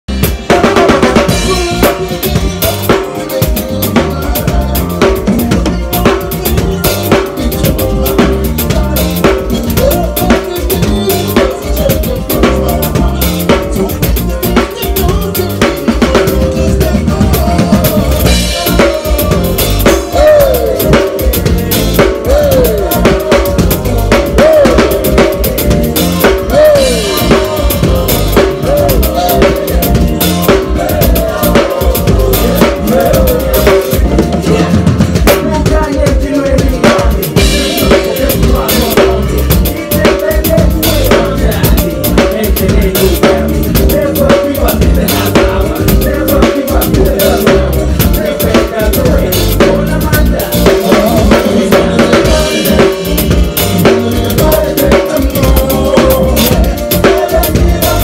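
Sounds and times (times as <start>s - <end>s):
band playing: 0.0s - 58.0s
drum kit playing a beat: 0.0s - 58.0s.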